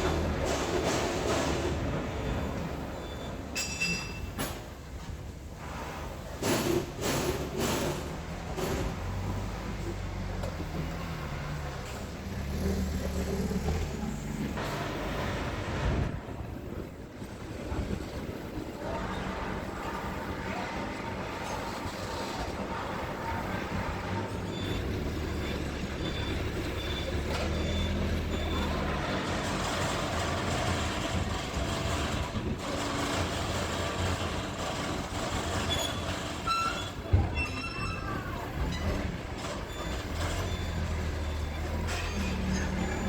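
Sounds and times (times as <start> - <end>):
forklift diesel engine running: 6.2 - 43.0.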